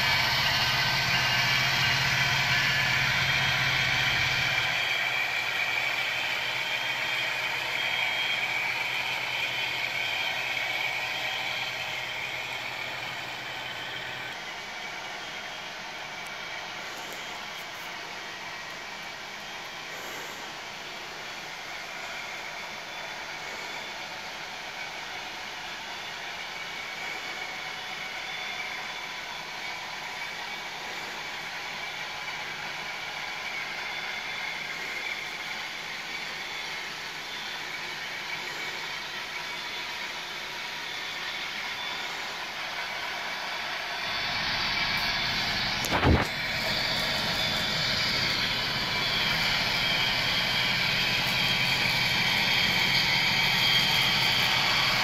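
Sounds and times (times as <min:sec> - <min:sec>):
model train rolling hum: 0:00.0 - 0:55.0.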